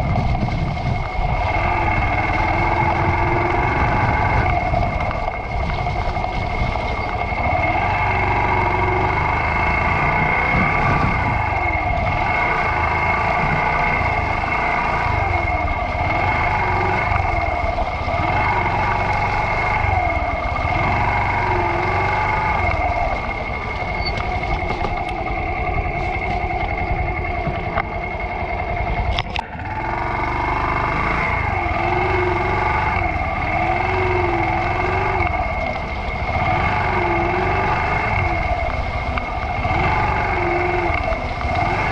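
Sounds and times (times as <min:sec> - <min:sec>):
high-pitched whine: 0:00.0 - 0:41.9
motorcycle engine revving: 0:00.0 - 0:41.9.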